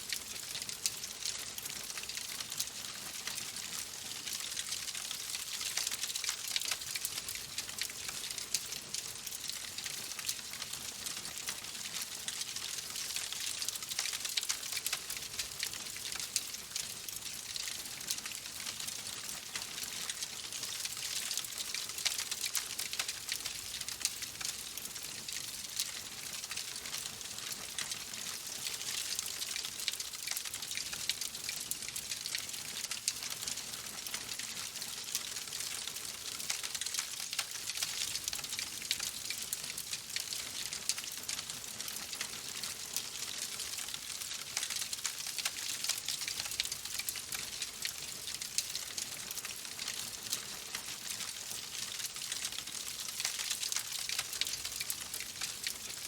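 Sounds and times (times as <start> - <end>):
wood fire crackling: 0.1 - 56.0.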